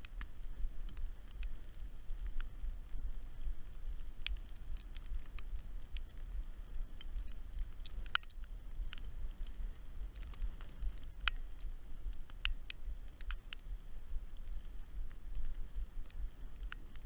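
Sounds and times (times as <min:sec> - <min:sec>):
raindrops tapping on camera housing: 0:00.0 - 0:17.0
wind rumble on microphone: 0:00.0 - 0:17.0.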